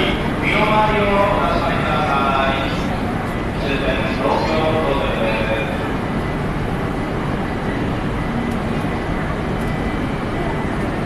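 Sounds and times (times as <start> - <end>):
rushing hum of station platform: 0.0 - 11.0.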